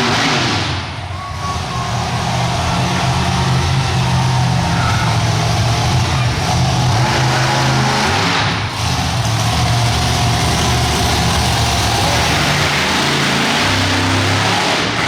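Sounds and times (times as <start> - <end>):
monster truck engine running: 0.0 - 15.0.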